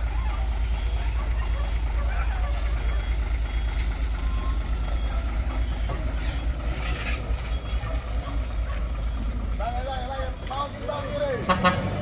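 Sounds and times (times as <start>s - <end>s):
heavy truck engine running: 0.0s - 12.0s
road noise: 0.0s - 12.0s.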